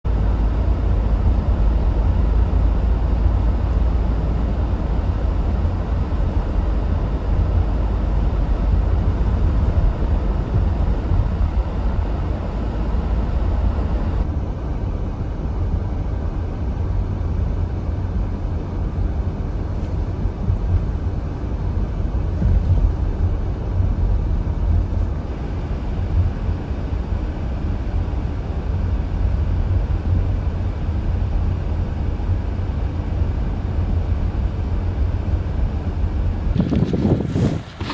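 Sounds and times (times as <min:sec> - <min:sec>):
vehicle driving on snowy road: 0:00.1 - 0:37.9.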